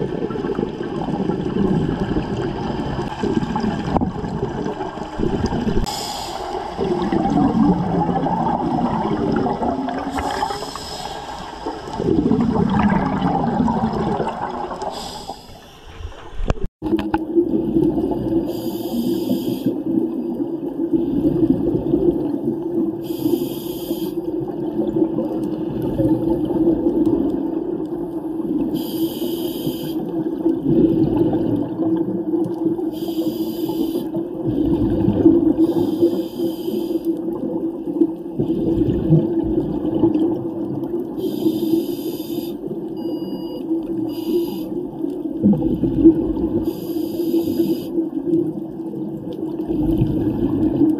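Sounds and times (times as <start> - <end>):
muffled underwater wash: 0.0 - 50.9
regulator bubbles hissing: 0.0 - 50.9.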